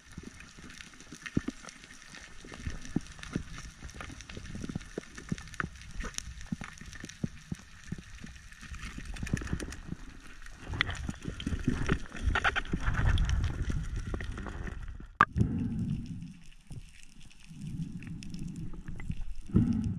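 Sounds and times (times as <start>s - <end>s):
underwater clicks and crackles: 0.0s - 19.9s.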